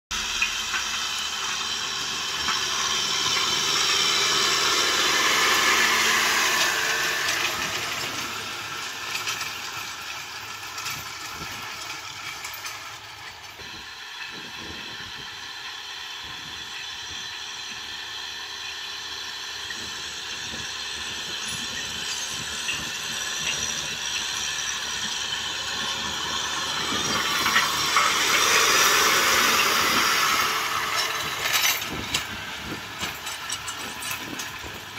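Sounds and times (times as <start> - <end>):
rotary tiller rattling in soil: 0.1 - 34.9
tractor engine running: 0.1 - 34.9.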